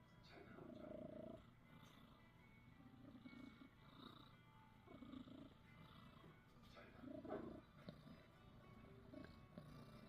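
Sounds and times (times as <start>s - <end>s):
cat snoring softly: 0.3s - 10.0s.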